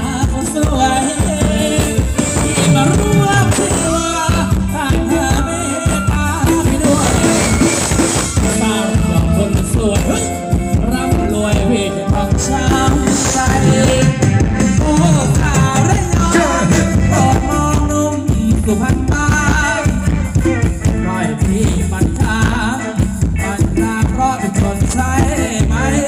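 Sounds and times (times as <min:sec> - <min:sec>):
band playing dance music: 0:00.0 - 0:26.0
person singing: 0:00.0 - 0:26.0.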